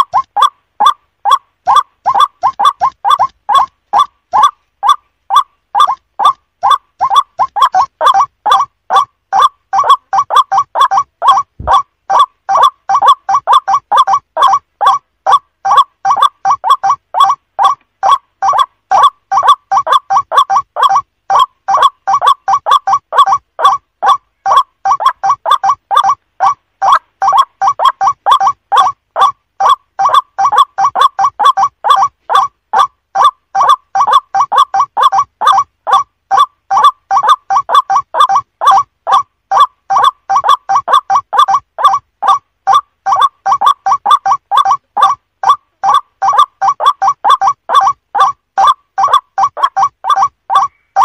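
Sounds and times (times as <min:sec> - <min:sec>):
waterhen calling: 0:00.0 - 0:51.0.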